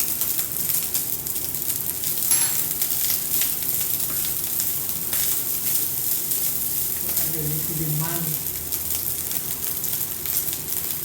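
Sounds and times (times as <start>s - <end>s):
rice sizzling in a hot pan: 0.0s - 11.0s.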